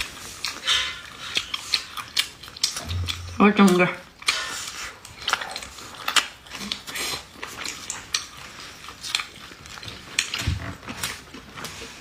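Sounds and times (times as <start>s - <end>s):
wet smacks and clicks: 0.0s - 11.8s
biting and chewing meat: 0.0s - 12.0s.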